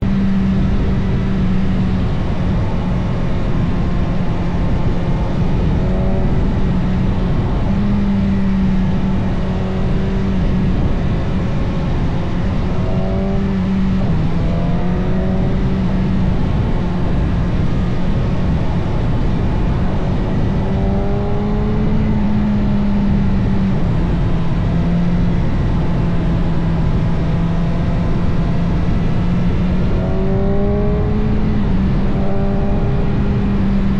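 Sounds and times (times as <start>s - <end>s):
motorcycle engine revving: 0.0s - 33.9s
rushing wind noise: 0.0s - 33.9s.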